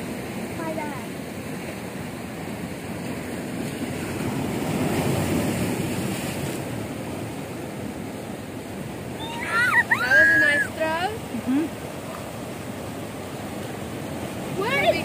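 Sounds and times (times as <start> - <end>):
sea waves washing against rocks: 0.0 - 15.0.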